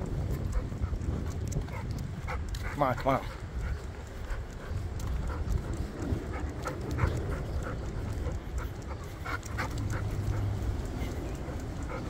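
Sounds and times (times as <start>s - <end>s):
dog panting: 0.0s - 12.0s
low rumble: 0.0s - 12.0s.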